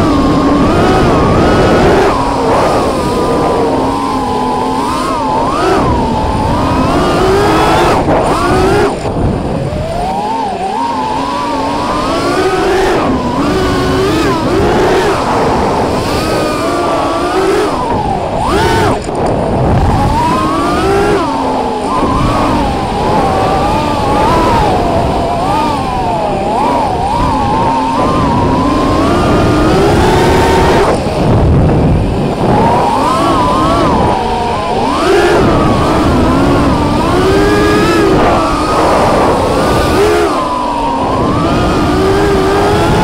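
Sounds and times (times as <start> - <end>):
quadcopter motors buzzing: 0.0 - 43.0
wind rush on microphone: 0.0 - 43.0.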